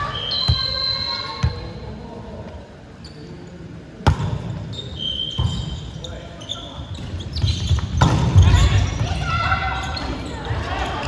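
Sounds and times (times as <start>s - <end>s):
sneaker squeaks on gym floor: 0.0s - 1.7s, 3.0s - 11.0s.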